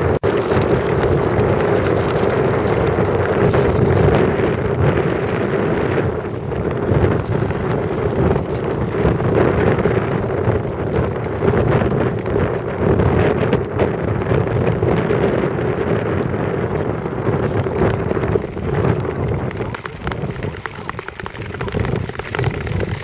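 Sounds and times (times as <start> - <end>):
wind rumble on microphone: 0.0 - 23.0
skate blades gliding on ice: 0.2 - 23.0.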